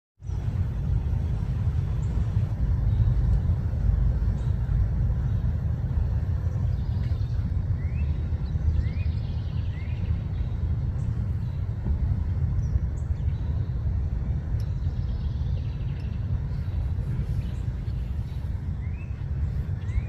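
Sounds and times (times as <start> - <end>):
low outdoor rumble: 0.2 - 20.0.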